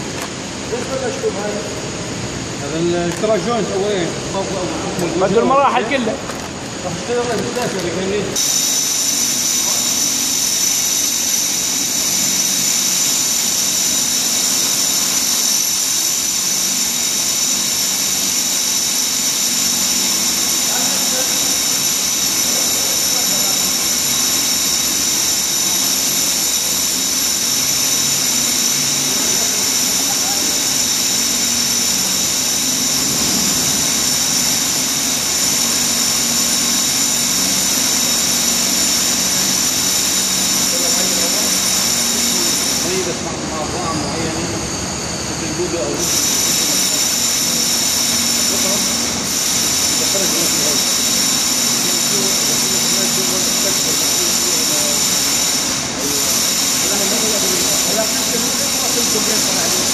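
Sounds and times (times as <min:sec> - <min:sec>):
plaster sprayer running: 0:00.0 - 0:59.9
compressed air hissing: 0:07.0 - 0:44.0, 0:46.0 - 0:59.9.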